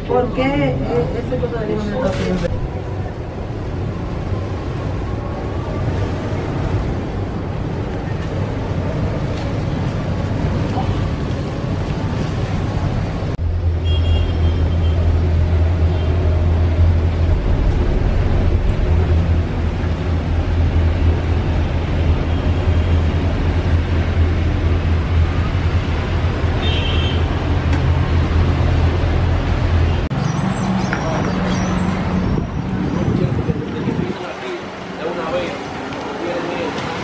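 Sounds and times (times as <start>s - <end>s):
cable car cabin hum and rushing: 0.0s - 37.0s.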